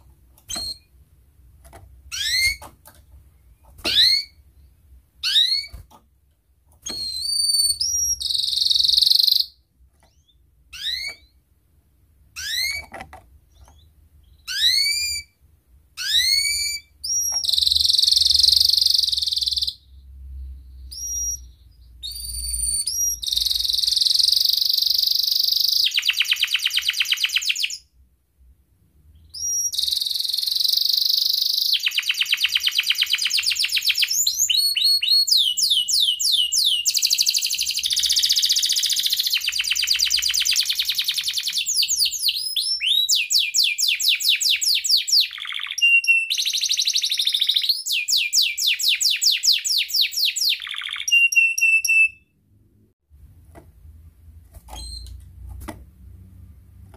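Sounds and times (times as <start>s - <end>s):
canary singing trills: 2.1s - 2.7s, 3.4s - 6.0s, 6.8s - 11.4s, 12.3s - 15.4s, 16.0s - 27.9s, 29.2s - 52.3s.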